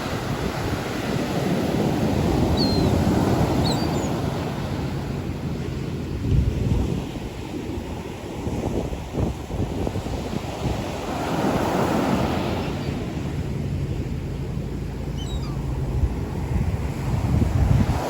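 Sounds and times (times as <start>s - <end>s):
ocean surf breaking: 0.0s - 8.6s, 10.0s - 18.0s
wind buffeting microphone: 0.0s - 18.0s.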